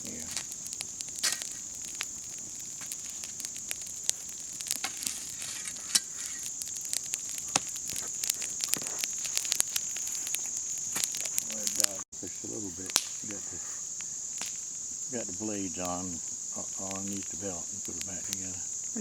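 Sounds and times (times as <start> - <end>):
crickets chirring: 0.0 - 19.0
wood fire crackling and popping: 0.0 - 19.0.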